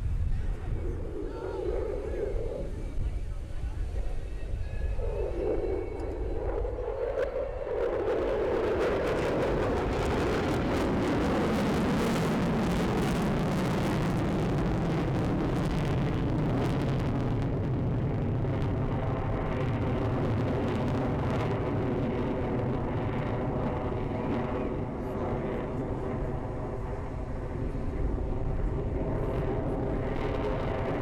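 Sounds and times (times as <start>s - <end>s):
jet passing: 4.8s - 31.0s.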